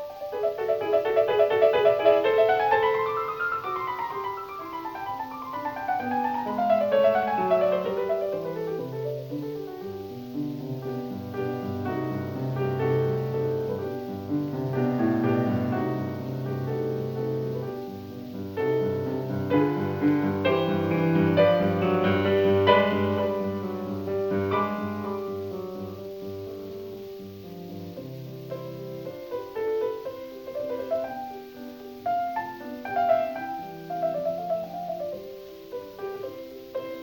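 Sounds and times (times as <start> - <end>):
solo piano piece: 0.0 - 37.0.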